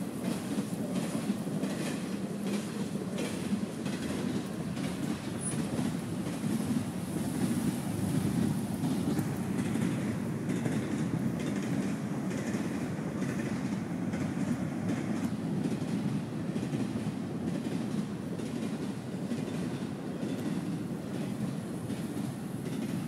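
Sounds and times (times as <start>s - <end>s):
clickety-clack over rail joints: 0.0s - 23.0s
train wheels rumbling on rails: 0.0s - 23.0s.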